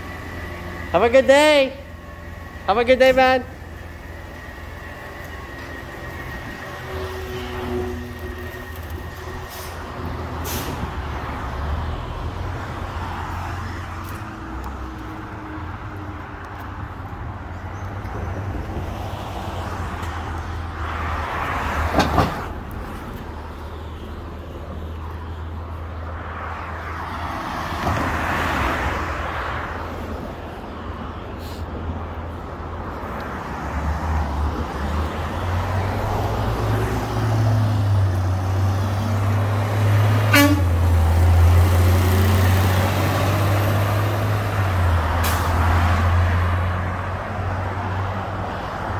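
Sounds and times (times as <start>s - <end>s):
diesel garbage truck engine rumbling: 0.0s - 48.9s.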